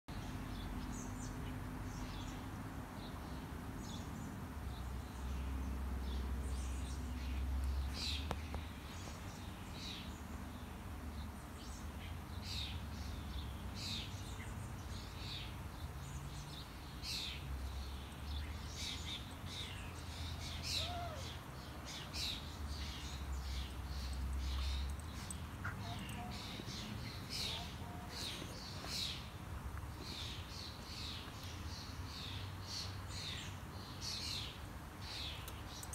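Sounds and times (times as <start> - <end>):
small birds chirping: 0.1 - 35.9.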